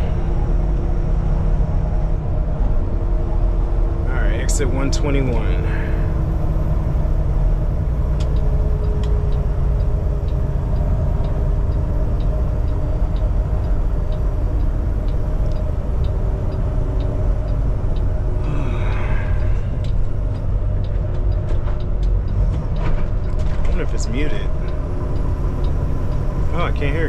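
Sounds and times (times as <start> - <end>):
truck engine running: 0.0 - 27.0
turn signal ticking: 0.0 - 27.0.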